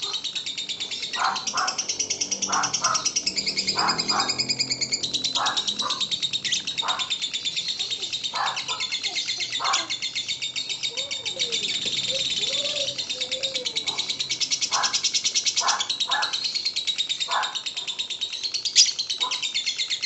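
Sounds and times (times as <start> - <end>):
lovebird rapid chatter: 0.0 - 20.0.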